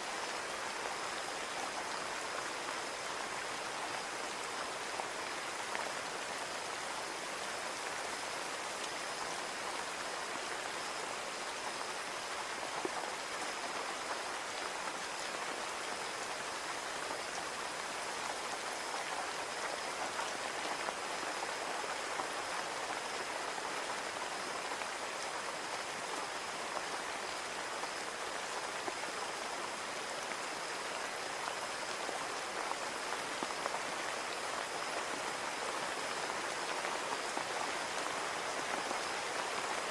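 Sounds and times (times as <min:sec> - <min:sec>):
rain on a window pane: 0:00.1 - 0:39.9.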